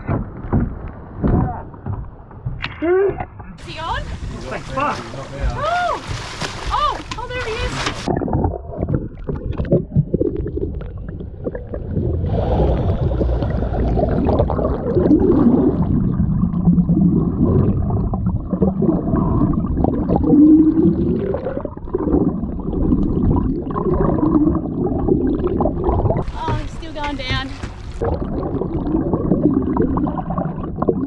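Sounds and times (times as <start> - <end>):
muffled underwater rumbling: 0.0 - 31.0.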